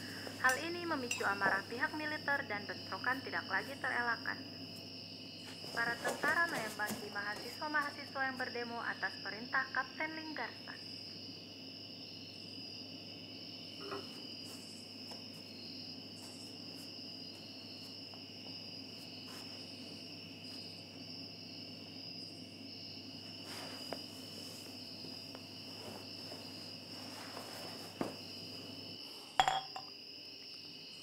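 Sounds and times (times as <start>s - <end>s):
crickets chirring: 0.0s - 31.0s.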